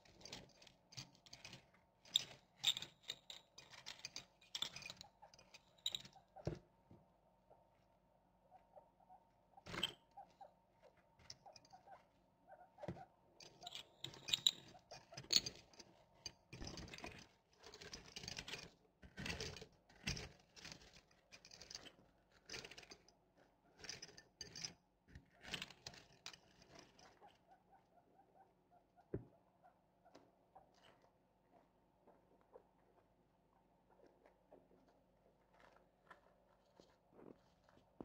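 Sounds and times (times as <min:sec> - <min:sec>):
guinea pigs rustling among marbles: 0:00.0 - 0:38.0.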